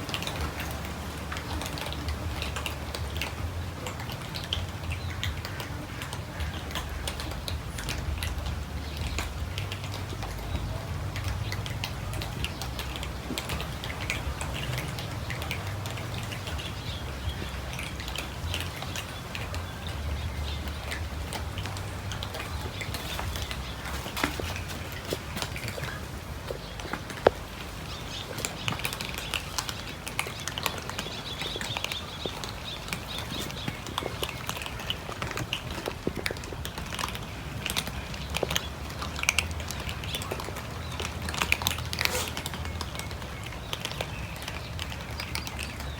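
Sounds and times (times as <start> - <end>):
cats chewing and crunching: 0.0 - 45.9.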